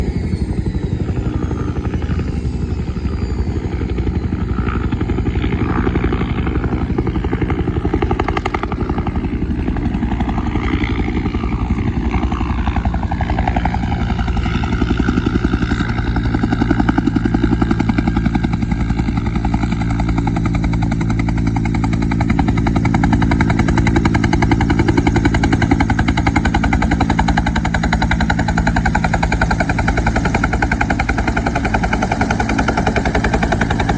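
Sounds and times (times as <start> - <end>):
helicopter rotor beating: 0.0 - 33.9
turbine whine: 0.0 - 33.9.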